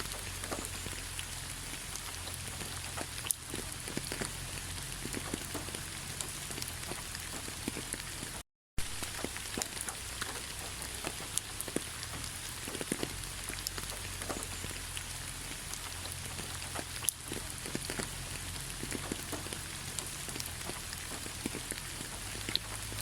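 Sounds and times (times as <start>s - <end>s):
rain drops ticking on surface: 0.0s - 23.0s.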